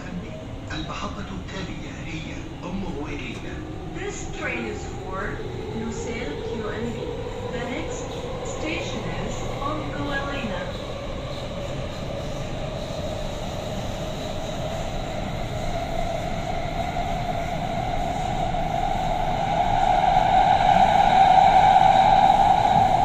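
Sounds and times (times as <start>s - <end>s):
train rumbling in a tunnel: 0.0s - 23.0s
train whine: 0.0s - 23.0s.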